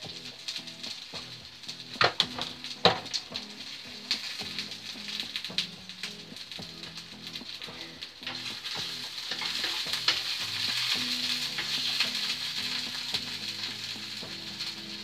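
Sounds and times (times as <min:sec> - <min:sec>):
sausages sizzling in frying pan: 0:00.0 - 0:15.0.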